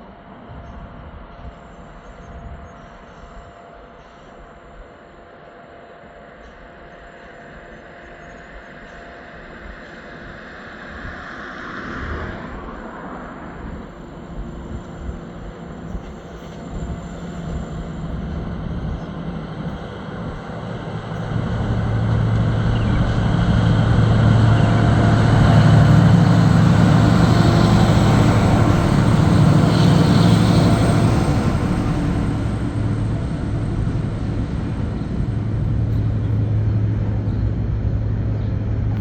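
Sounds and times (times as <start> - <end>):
locomotive engine drone: 0.0 - 39.0.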